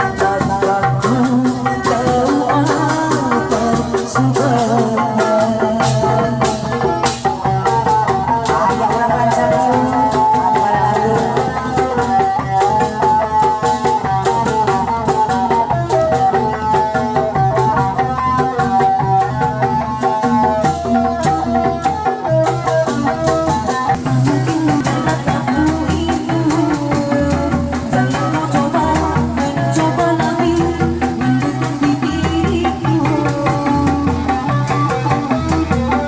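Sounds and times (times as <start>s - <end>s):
hand drums beating: 0.0s - 36.0s
traditional ensemble music: 0.0s - 36.0s.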